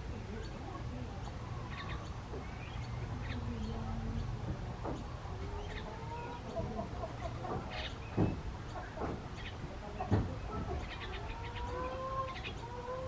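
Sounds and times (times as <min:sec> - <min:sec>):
birds chirping and calling: 0:00.0 - 0:13.0
chickens clucking: 0:00.1 - 0:13.0.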